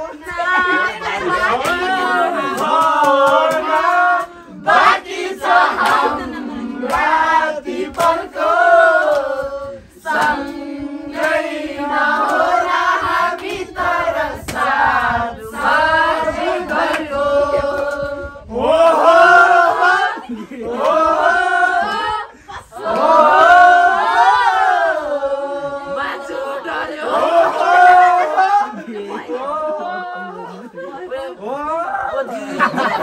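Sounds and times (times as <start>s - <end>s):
group singing: 0.0s - 31.2s.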